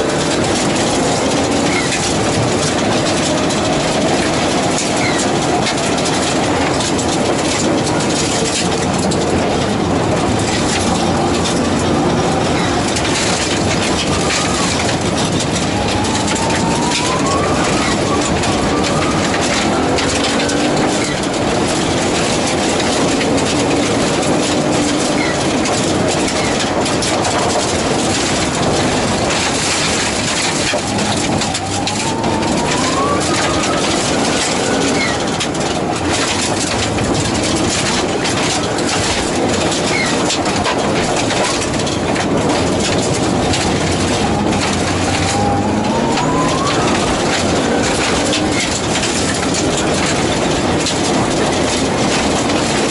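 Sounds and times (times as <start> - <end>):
rally car engine revving: 0.0 - 52.9
stones ticking on car body: 0.0 - 52.9
tyre and gravel noise: 0.0 - 52.9.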